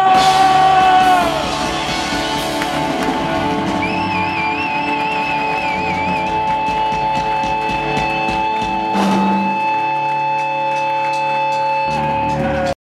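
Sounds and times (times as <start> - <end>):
live punk rock band: 0.0 - 12.7.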